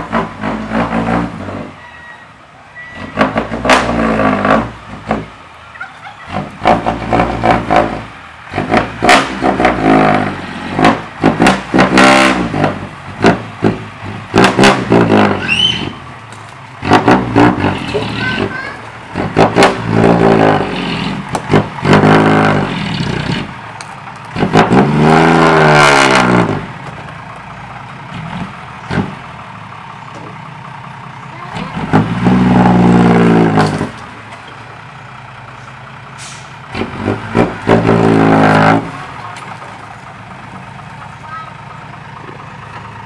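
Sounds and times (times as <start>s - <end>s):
diesel truck engine revving: 0.0s - 43.0s.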